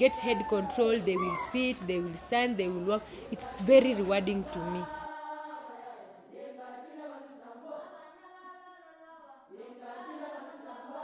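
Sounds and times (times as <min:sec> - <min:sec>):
choir singing slow chant: 0:00.0 - 0:11.0.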